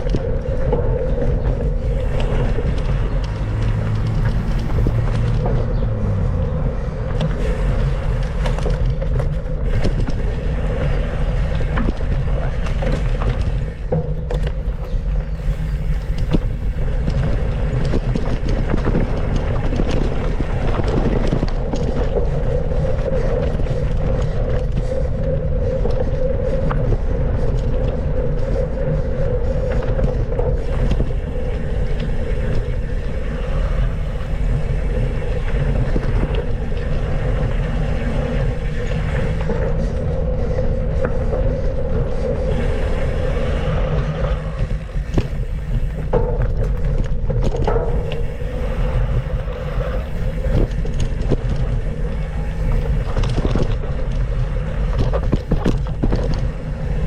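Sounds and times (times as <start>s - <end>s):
bike rattling: 0.0s - 57.0s
wind rush on microphone: 0.0s - 57.0s.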